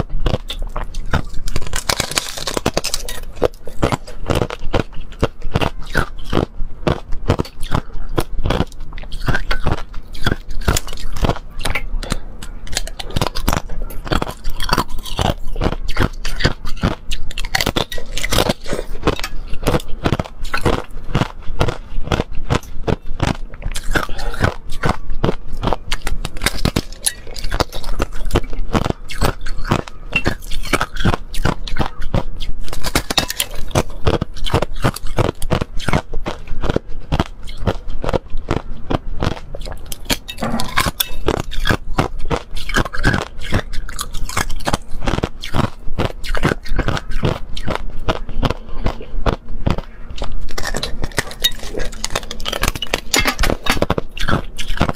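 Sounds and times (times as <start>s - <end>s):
ice crunching and snapping: 0.2s - 48.6s, 49.2s - 54.9s.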